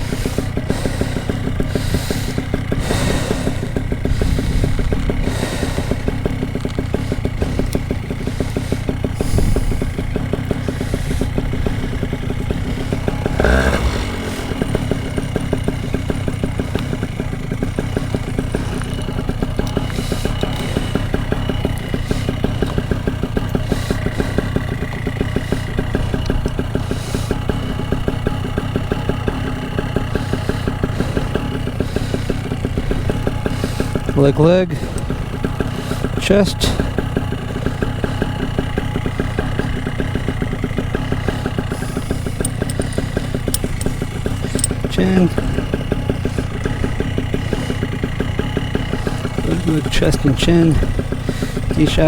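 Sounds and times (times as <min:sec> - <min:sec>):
paramotor engine idling: 0:00.0 - 0:52.0.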